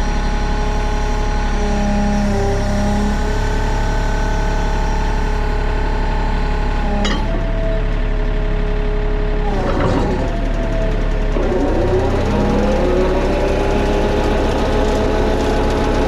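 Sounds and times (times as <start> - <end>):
excavator diesel engine running: 1.0 - 16.0.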